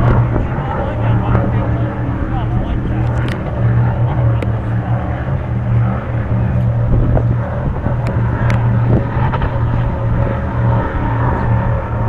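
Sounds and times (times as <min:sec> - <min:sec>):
powerboat engines droning: 0:00.0 - 0:12.0
wind buffeting microphone: 0:00.0 - 0:12.0.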